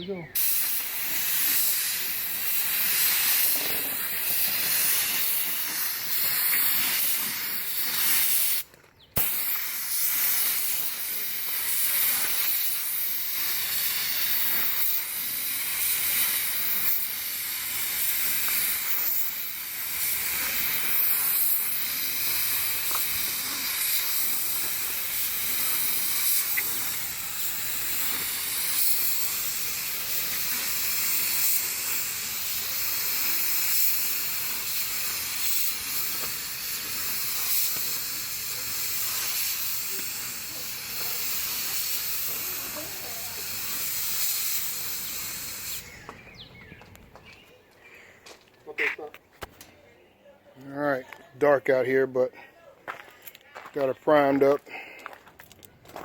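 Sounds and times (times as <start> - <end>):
spray gun hissing: 0.3 - 46.3.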